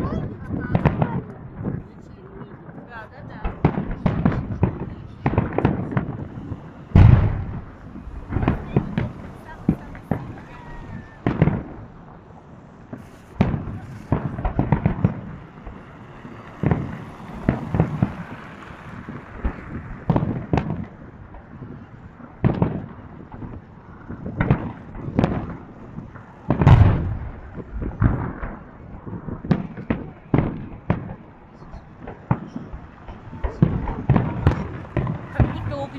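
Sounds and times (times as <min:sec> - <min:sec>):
fireworks booming and popping: 0:00.0 - 0:35.9.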